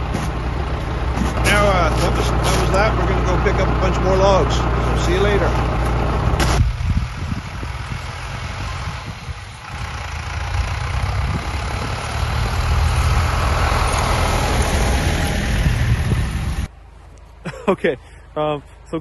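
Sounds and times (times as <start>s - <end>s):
tractor engine passing: 0.0s - 16.7s.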